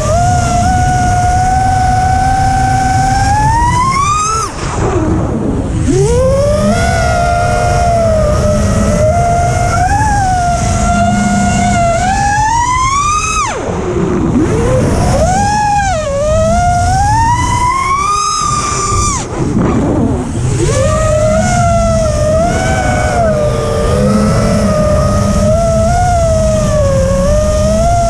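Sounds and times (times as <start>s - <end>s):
drone motors whining: 0.0s - 28.0s
wind rush: 0.0s - 28.0s.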